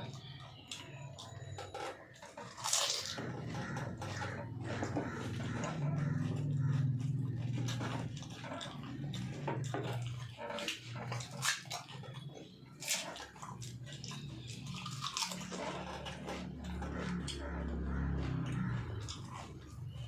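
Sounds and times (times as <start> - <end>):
people chewing: 0.0 - 20.0
sharp clicks and crunches: 0.0 - 20.0.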